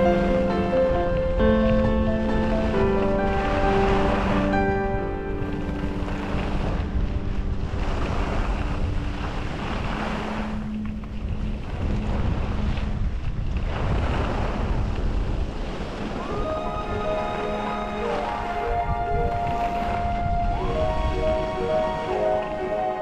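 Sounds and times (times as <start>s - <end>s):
music: 0.0s - 12.6s, 16.1s - 23.0s
wind rushing over microphone: 0.0s - 23.0s.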